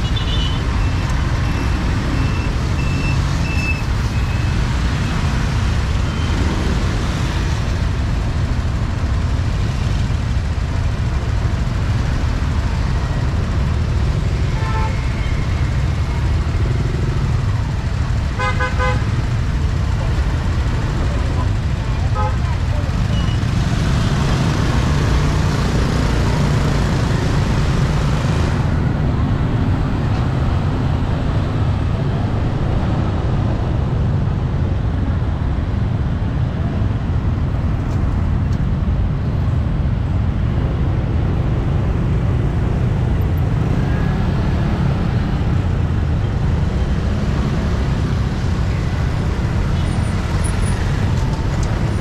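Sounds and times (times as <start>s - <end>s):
rumble of engines: 0.0s - 52.0s.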